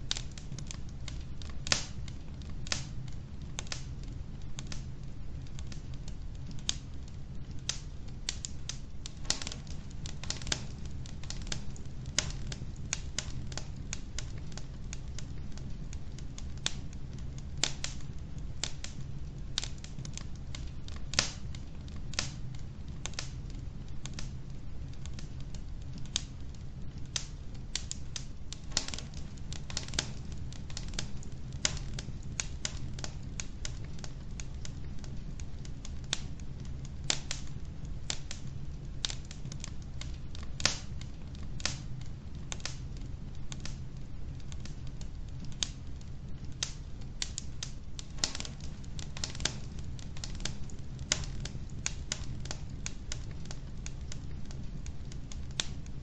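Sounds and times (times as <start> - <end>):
fire crackling and popping: 0.0 - 56.0
low fire roar: 0.0 - 56.0.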